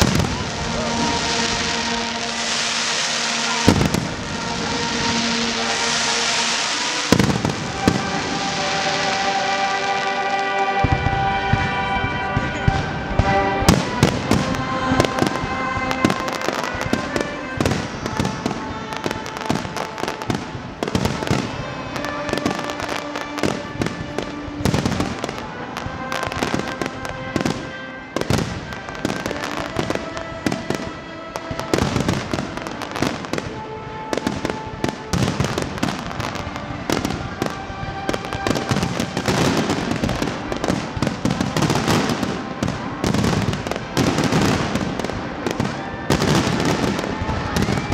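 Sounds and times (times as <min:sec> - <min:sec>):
music playing: 0:00.0 - 0:47.9.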